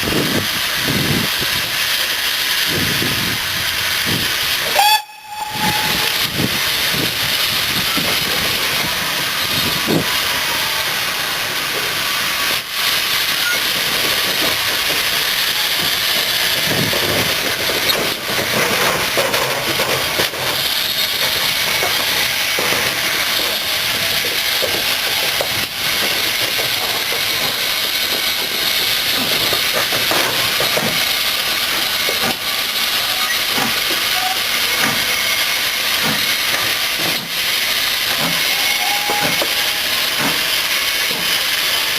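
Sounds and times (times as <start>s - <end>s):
steam locomotive hissing: 0.0s - 41.9s.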